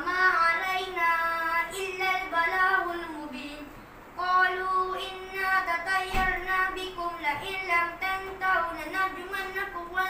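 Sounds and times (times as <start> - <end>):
child chanting: 0.0 - 10.0.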